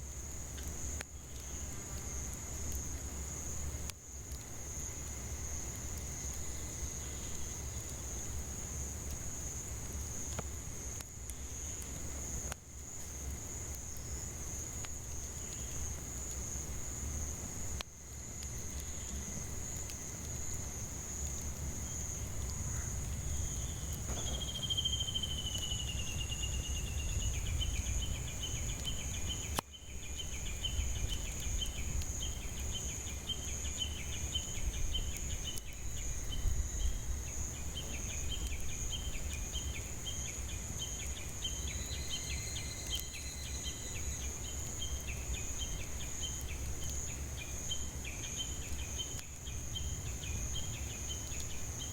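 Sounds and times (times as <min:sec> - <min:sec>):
cicadas droning: 0:00.0 - 0:51.9
sliding pulsing insect call: 0:04.6 - 0:51.9.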